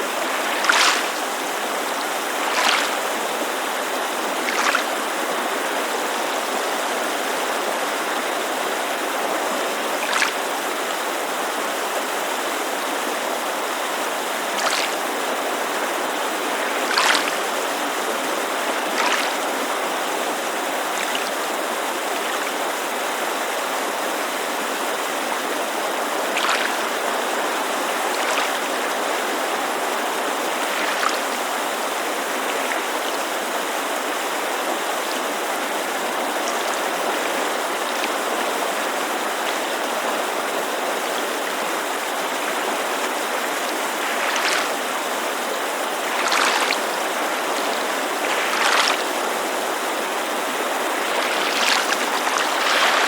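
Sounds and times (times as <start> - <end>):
mountain creek rushing: 0.0 - 53.0
water lapping against shore: 0.0 - 53.0.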